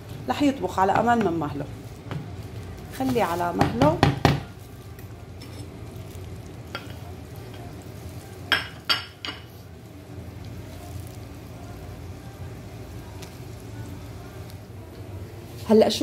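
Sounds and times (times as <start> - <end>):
onion sizzling in oil: 0.0 - 16.0.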